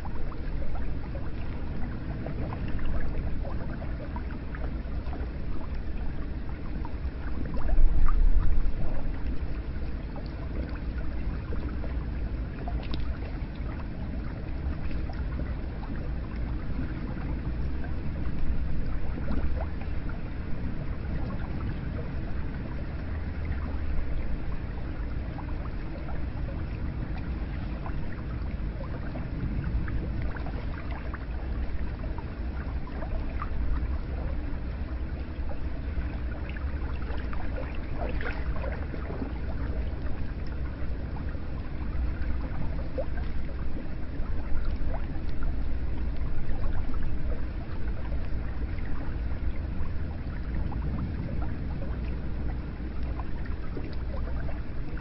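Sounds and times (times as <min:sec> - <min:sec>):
water drips and splashes: 0:00.0 - 0:55.0.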